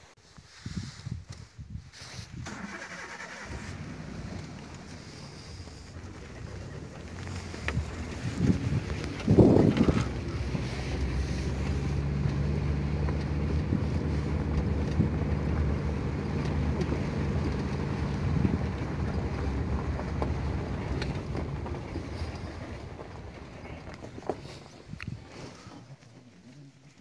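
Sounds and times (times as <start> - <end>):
vehicle engine running: 2.5 - 25.9
wind buffeting microphone: 3.5 - 25.4.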